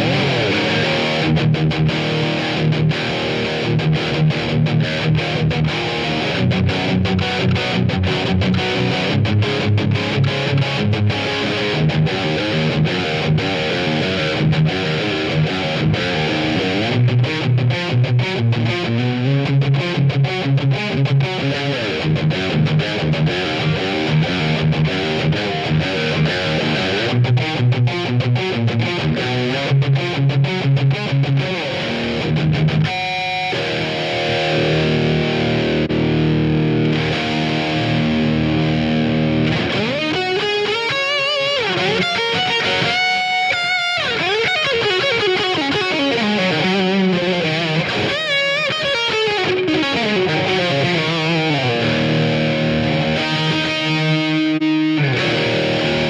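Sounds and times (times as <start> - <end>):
distorted electric guitar riffs: 0.0 - 56.0.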